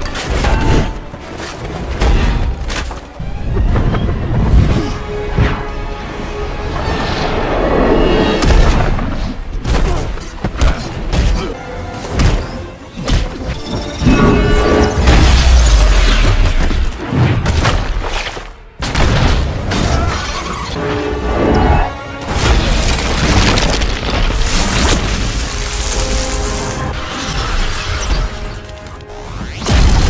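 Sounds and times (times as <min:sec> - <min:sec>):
action film music score: 0:00.0 - 0:30.0.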